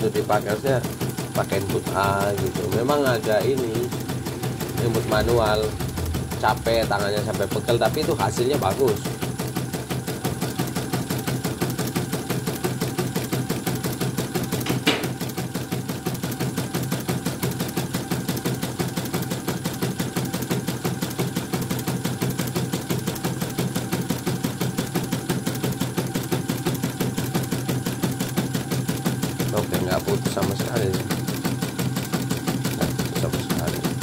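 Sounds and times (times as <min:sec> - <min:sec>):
embroidery machine needle clatter: 0:00.0 - 0:34.0.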